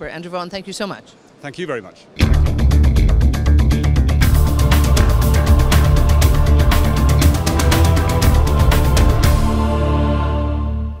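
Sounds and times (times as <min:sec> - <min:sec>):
theme music with held low chord: 0:02.2 - 0:11.0.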